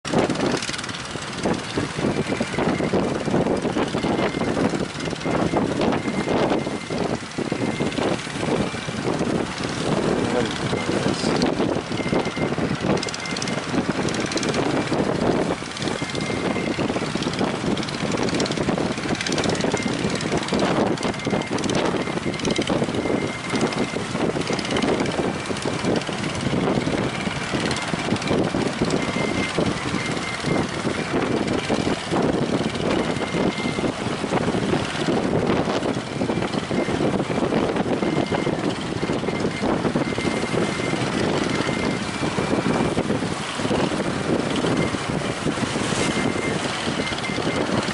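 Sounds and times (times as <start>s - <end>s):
wind blowing on microphone: 0.0s - 47.9s.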